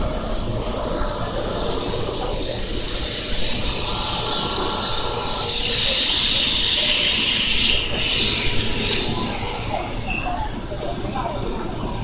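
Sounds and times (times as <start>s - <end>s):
train wheels hissing past: 0.0s - 11.5s.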